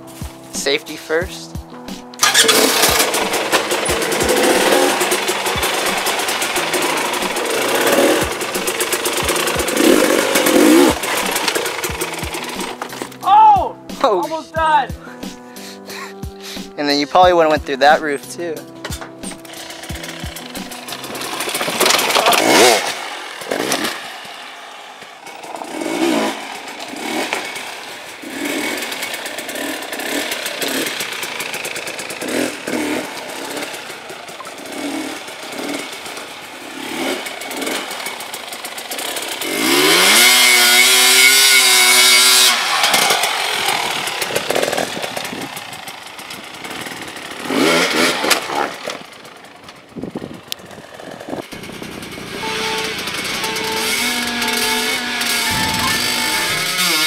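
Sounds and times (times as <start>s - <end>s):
dirt bike engine revving: 2.0s - 13.2s, 18.8s - 57.0s.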